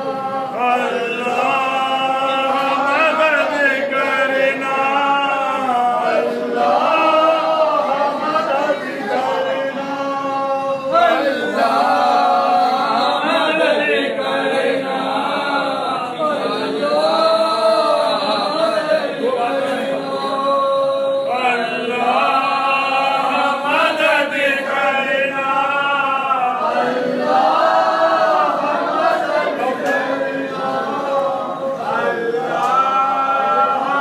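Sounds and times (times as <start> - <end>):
group of men chanting a lament: 0.0 - 34.0.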